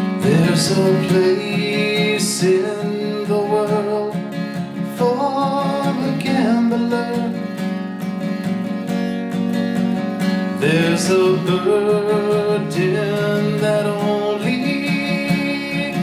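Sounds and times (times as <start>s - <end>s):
acoustic guitar strummed: 0.0s - 16.0s
pitch-bending guitar melody: 0.0s - 16.0s.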